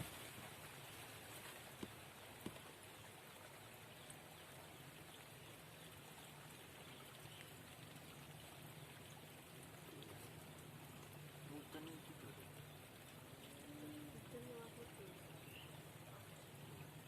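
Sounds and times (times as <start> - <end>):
faint hiss of water: 0.0 - 17.0.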